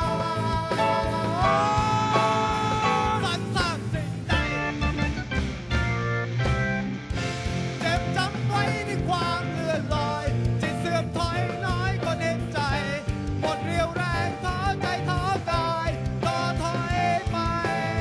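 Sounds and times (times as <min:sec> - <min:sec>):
male singer: 0:00.0 - 0:04.8, 0:07.8 - 0:18.0
bass guitar: 0:00.0 - 0:18.0
electric guitars: 0:00.0 - 0:18.0
steady drum beat: 0:00.0 - 0:18.0.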